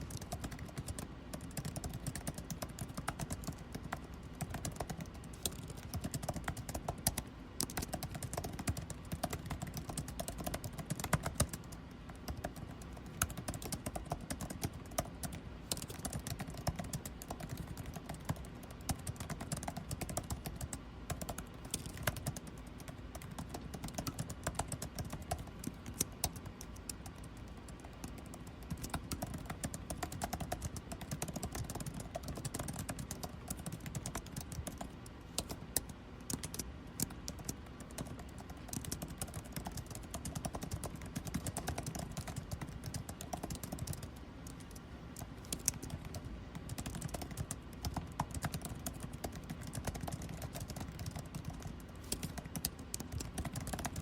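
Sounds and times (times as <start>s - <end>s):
air conditioning hum: 0.0s - 54.0s
typing on computer keyboard: 0.0s - 54.0s.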